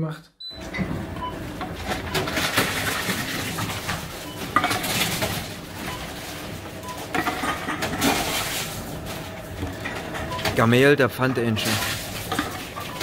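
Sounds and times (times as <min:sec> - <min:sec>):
containers clinking in machine: 0:01.6 - 0:13.0.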